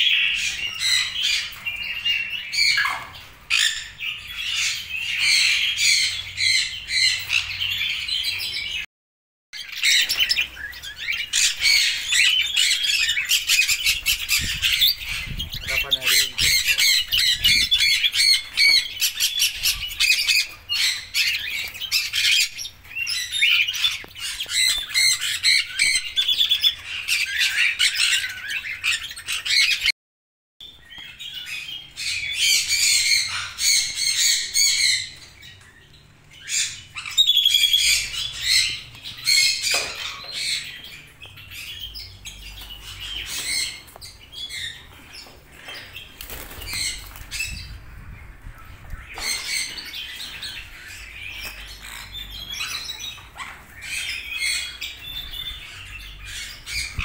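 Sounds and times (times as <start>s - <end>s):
parrots chirping and squawking: 0.0s - 8.8s, 9.6s - 29.9s, 30.8s - 57.0s.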